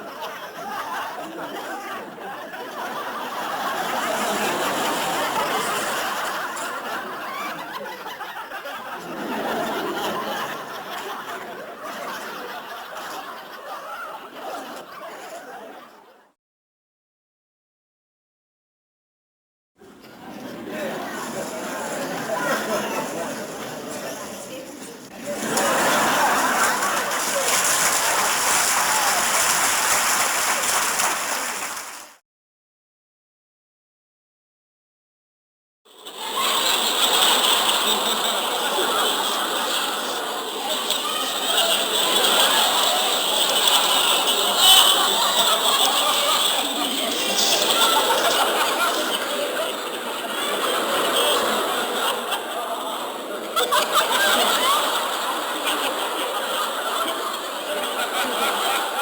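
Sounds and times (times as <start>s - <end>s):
crowd laughing: 0.0s - 16.4s, 19.8s - 32.2s, 35.9s - 59.0s.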